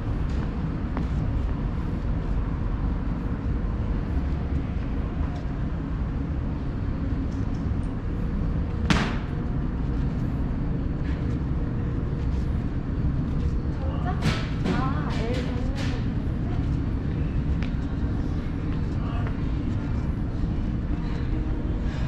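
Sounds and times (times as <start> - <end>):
low concourse rumble: 0.0 - 22.0.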